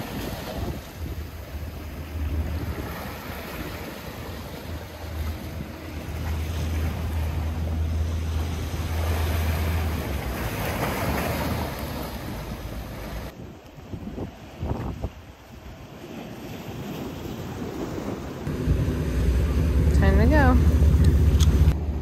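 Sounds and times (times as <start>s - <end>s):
choppy sea water: 0.0s - 22.0s
wind buffeting microphone: 0.0s - 22.0s.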